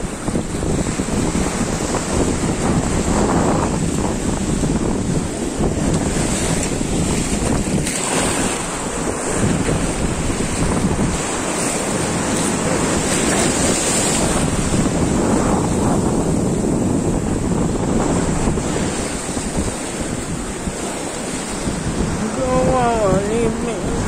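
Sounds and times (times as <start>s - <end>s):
sea waves washing on sand: 0.0s - 24.0s
wind buffeting microphone: 0.0s - 24.0s.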